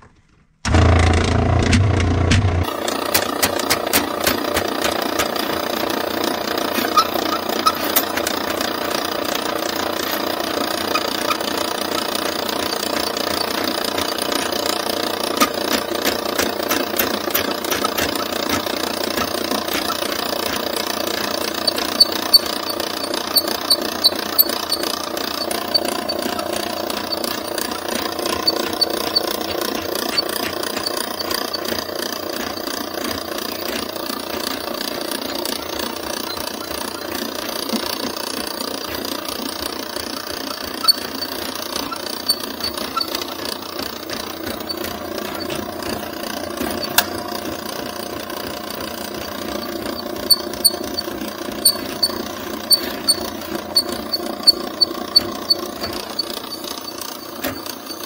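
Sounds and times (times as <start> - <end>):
drain snake motor and cable: 0.6 - 58.0.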